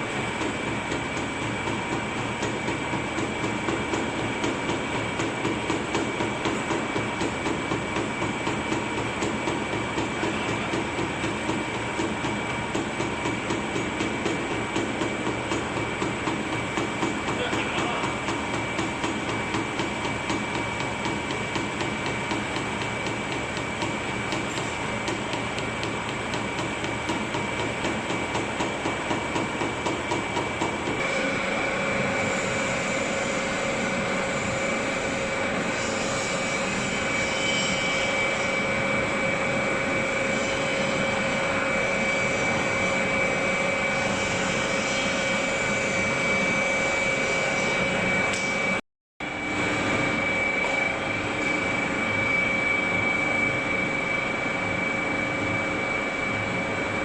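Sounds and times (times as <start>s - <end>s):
machine whine: 0.0s - 57.0s.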